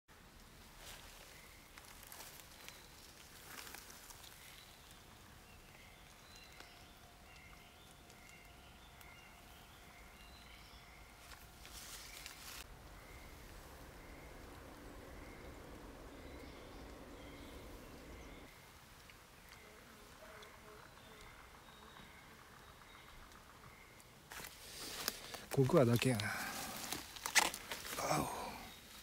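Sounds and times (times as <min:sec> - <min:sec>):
faint woodland ambience: 0:00.1 - 0:29.0
rustling: 0:00.6 - 0:09.4, 0:10.2 - 0:21.5, 0:24.3 - 0:29.0
bird chirping: 0:01.2 - 0:29.0.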